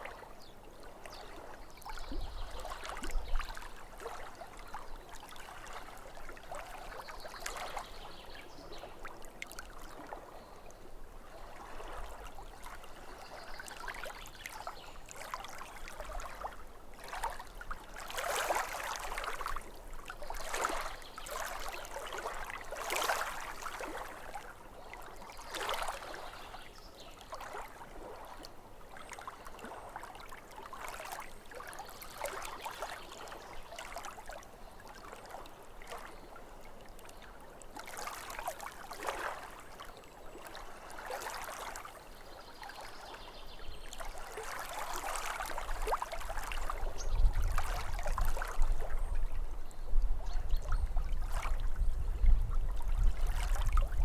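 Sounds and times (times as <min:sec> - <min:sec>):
waves lapping at shore: 0:00.0 - 0:49.3, 0:50.2 - 0:51.6, 0:52.7 - 0:54.0.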